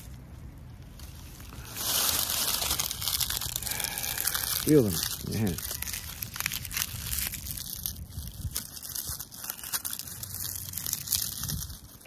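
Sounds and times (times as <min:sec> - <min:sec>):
dry leaves crunching in a hand: 0:00.8 - 0:12.0.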